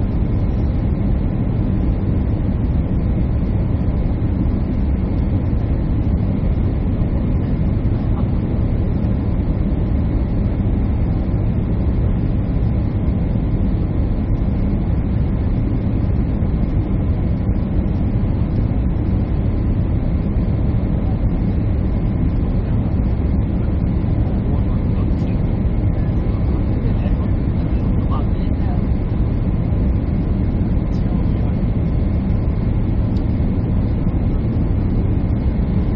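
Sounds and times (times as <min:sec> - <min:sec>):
jet cabin engine and airflow rush: 0:00.0 - 0:35.9.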